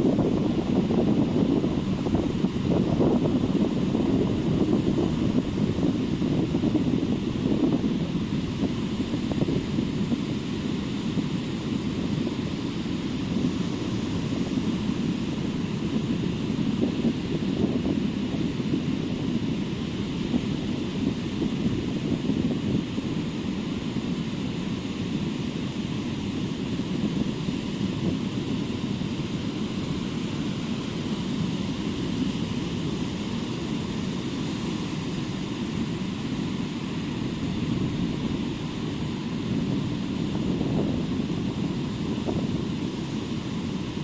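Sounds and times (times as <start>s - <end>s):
ocean surf on a beach: 0.0s - 44.0s
wind rumble on microphone: 0.0s - 44.0s.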